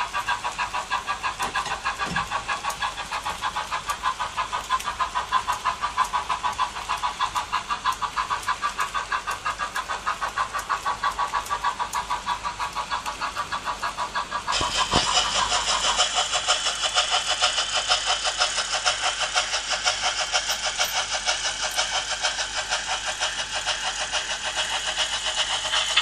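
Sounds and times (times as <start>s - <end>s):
model train wheels clicking: 0.0s - 26.0s.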